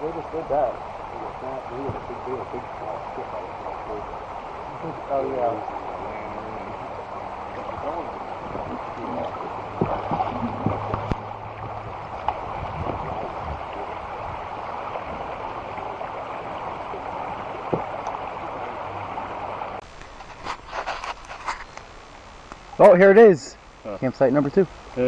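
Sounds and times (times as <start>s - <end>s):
creek water splashing: 0.0s - 21.8s.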